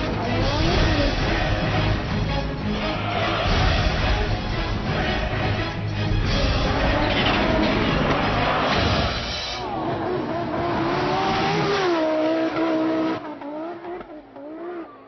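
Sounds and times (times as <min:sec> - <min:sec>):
racing car engine revving: 0:00.0 - 0:05.6, 0:06.2 - 0:15.0.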